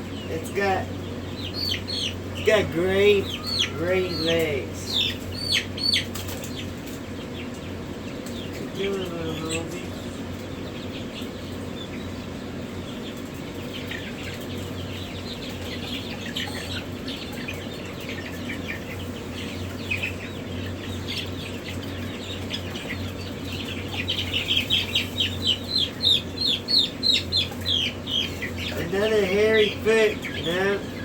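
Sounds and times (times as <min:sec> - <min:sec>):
chicks peeping: 0:00.0 - 0:31.0
steady low hum: 0:00.0 - 0:31.0.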